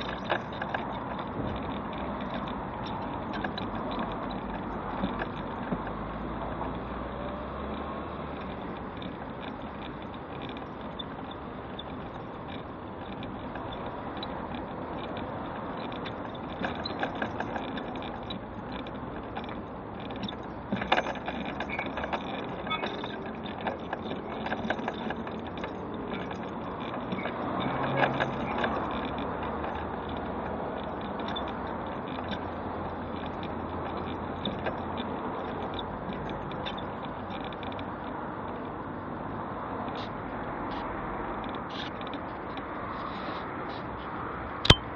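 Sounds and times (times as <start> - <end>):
mobility scooter riding: 0.0 - 44.9
road traffic hum: 0.0 - 44.9
small clicks and rattles: 0.0 - 44.9.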